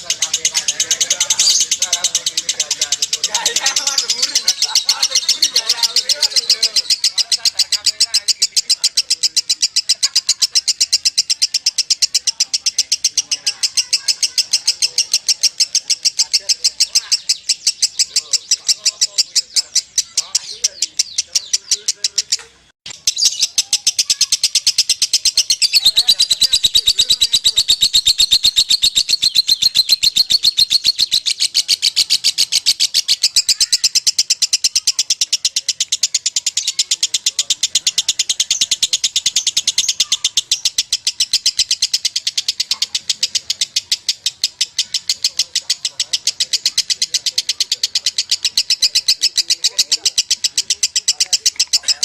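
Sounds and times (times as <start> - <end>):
lovebird singing shrill chatter: 0.0 - 52.0.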